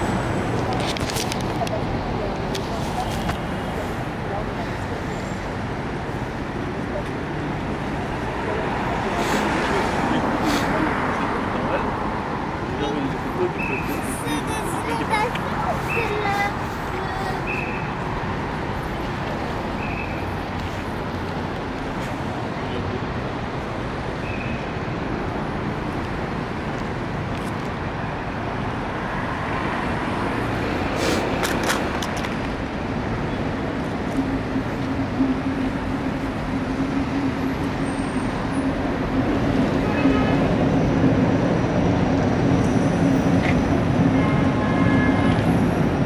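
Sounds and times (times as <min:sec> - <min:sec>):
city road traffic: 0:00.0 - 0:46.0.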